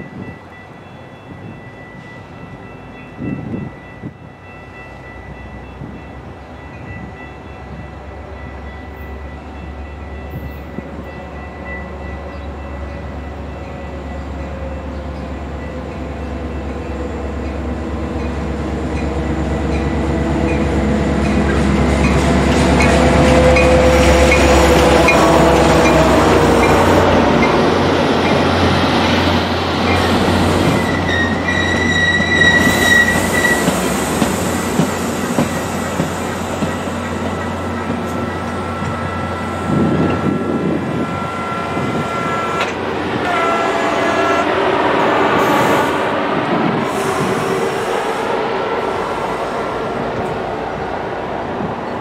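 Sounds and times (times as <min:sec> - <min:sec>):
diesel locomotive engine rumble: 0:00.0 - 0:52.0.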